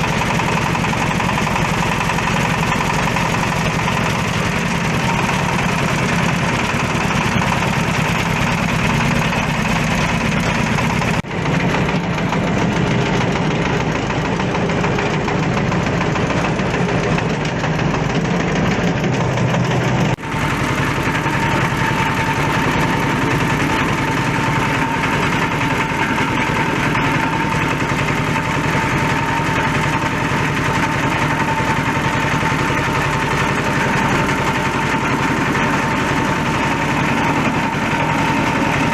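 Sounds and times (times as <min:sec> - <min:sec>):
shredding machine drone: 0:00.0 - 0:38.9.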